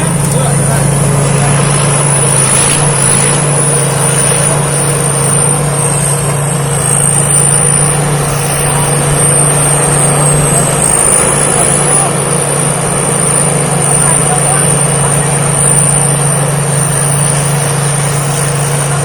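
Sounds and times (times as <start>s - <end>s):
combine harvester engine humming: 0.0s - 19.0s.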